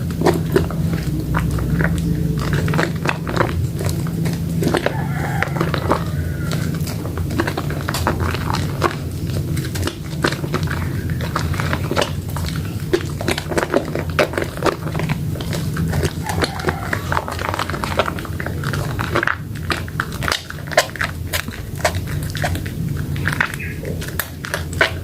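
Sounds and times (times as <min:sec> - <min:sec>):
steady low hum: 0:00.0 - 0:25.0
wet soap squelching in hands: 0:00.0 - 0:25.0.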